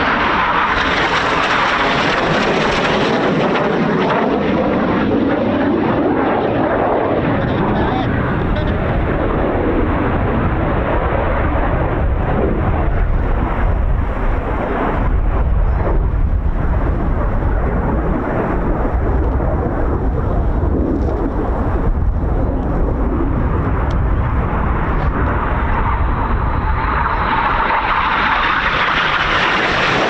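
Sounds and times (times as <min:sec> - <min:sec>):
distant jets roaring: 0:00.0 - 0:30.0
wind buffeting microphone: 0:00.0 - 0:30.0.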